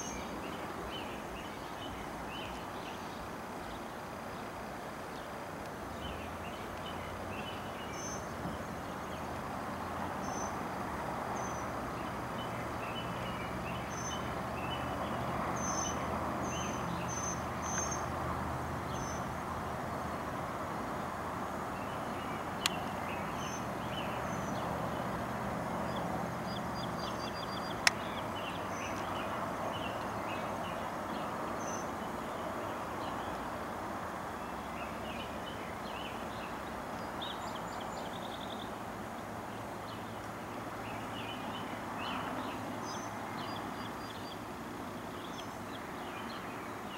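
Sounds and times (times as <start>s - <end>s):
small birds chirping: 0.0s - 18.2s, 18.8s - 46.9s
distant traffic: 0.0s - 46.9s.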